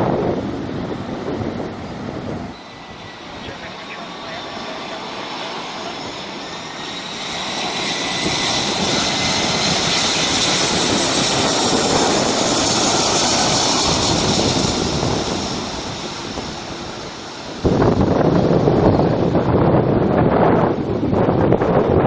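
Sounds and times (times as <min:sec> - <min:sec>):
jet engines roaring with fan whine: 0:00.0 - 0:22.0.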